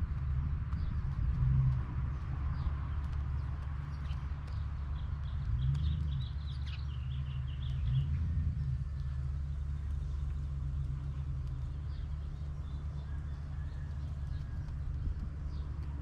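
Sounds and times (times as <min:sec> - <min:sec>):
wind rumble on microphone: 0:00.0 - 0:16.0
bird chirping: 0:02.5 - 0:16.0.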